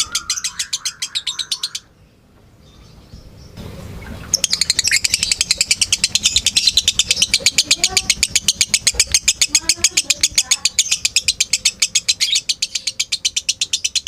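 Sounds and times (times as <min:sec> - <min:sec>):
lovebird chattering song: 0:00.0 - 0:14.0.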